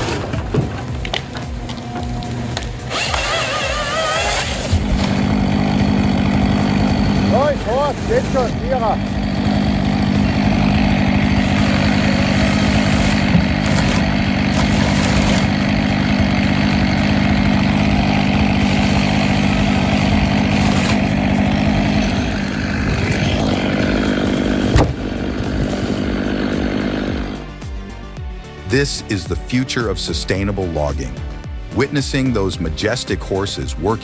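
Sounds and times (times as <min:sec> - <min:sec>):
machine engine running: 0:00.0 - 0:27.8.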